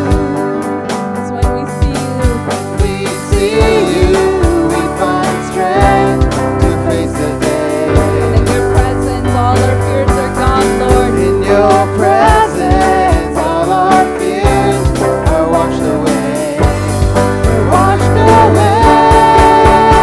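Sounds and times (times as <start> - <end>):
person singing: 0.0 - 20.0
steady drum beat: 0.0 - 20.0
sustained keyboard chords: 0.0 - 20.0.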